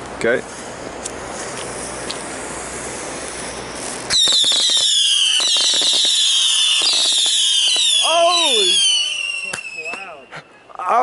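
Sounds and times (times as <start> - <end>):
fireworks crackling: 0.0 - 10.3
firework fuse hissing: 0.0 - 10.6
fireworks shrieking whistles: 0.6 - 10.6.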